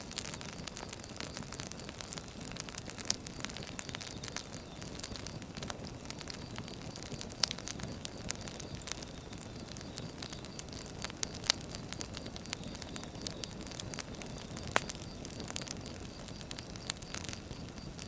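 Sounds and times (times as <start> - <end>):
firewood crackling: 0.0 - 18.0
sharp pops and snaps of fire: 0.0 - 18.0.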